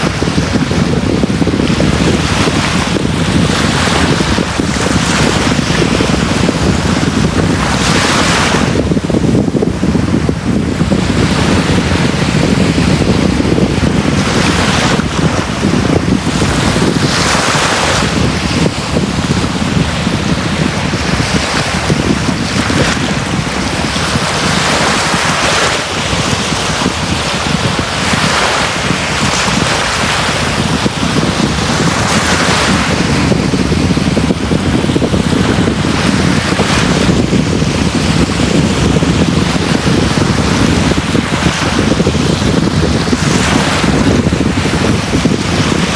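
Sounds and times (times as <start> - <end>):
rush of surf: 0.0 - 45.9
sea waves breaking on a beach: 0.0 - 45.9.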